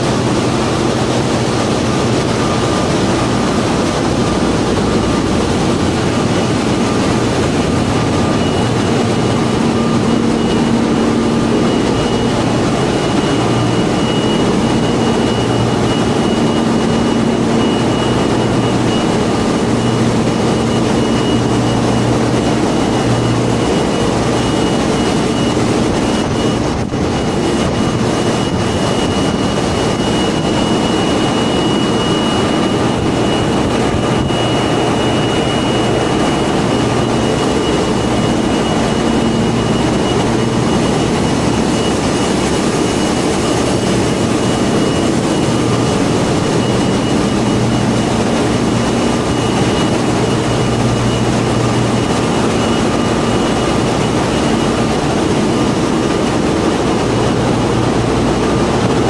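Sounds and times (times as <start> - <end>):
engine room machinery roar: 0.0 - 59.0
low hum: 0.0 - 59.0
steady high whine: 0.0 - 59.0.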